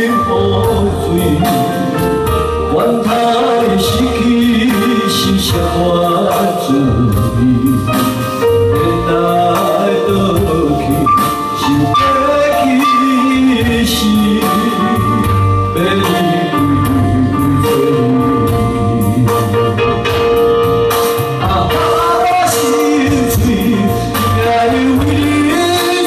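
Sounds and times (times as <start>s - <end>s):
man singing into a microphone: 0.0s - 20.4s, 21.2s - 26.0s
electronic keyboard accompaniment: 0.0s - 26.0s.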